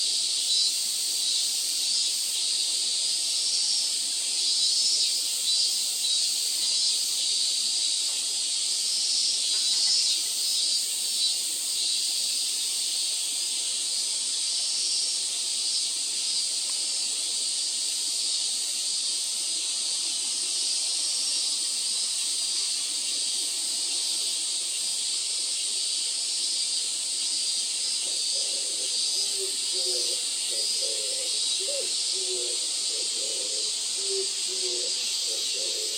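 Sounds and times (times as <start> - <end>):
high-pitched outdoor hiss: 0.0 - 35.9.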